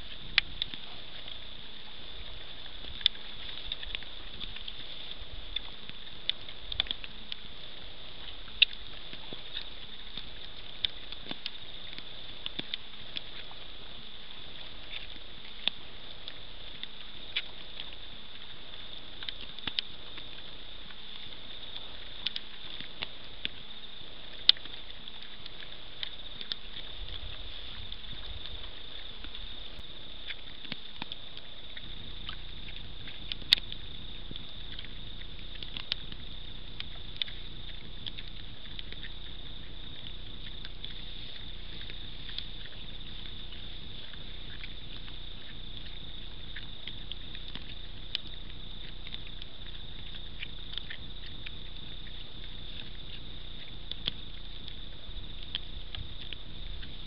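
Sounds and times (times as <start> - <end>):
pigs rooting and chewing: 0.0 - 57.0.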